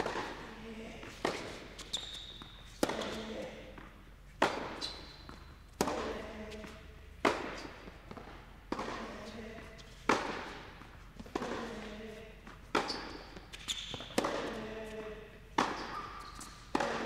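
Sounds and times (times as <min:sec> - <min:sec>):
tennis racket striking ball: 0:00.0 - 0:17.0.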